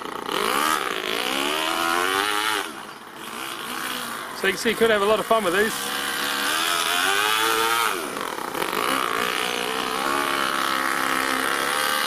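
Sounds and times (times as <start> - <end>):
nitro engine revving: 0.0 - 12.0.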